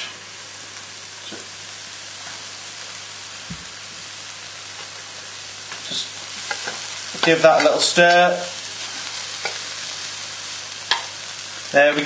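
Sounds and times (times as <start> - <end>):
wok sizzling: 0.0 - 12.0.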